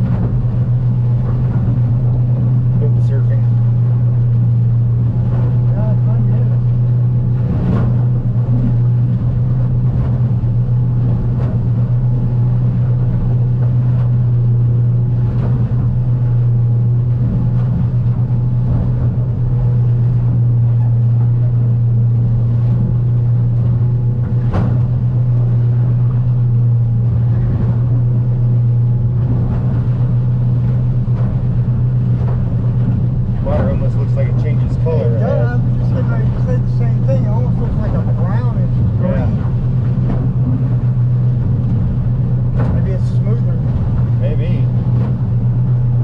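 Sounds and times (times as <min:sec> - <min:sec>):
hull knocking on water: 0:00.0 - 0:46.0
outboard motor drone: 0:00.0 - 0:46.0.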